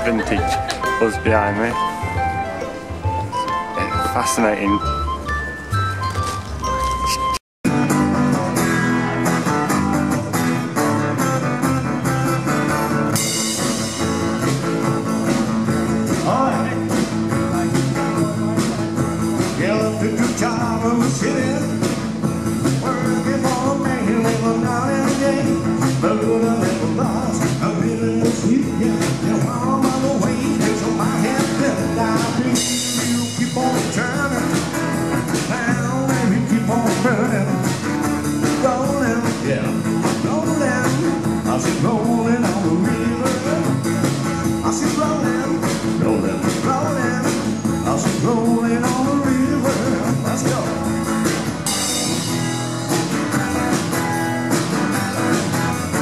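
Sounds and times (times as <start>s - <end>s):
upright double bass: 0.0s - 56.0s
strummed acoustic guitar: 7.1s - 56.0s.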